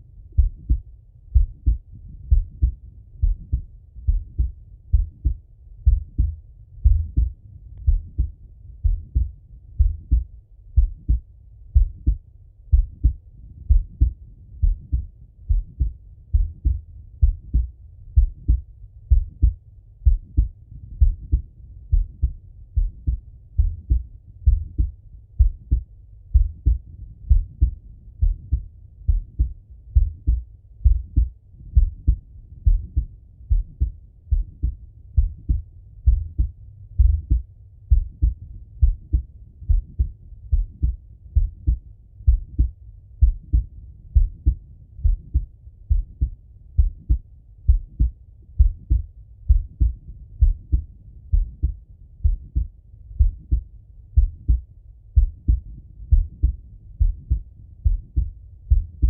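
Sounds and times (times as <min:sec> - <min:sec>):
heartbeat thuds: 0:00.0 - 0:59.0.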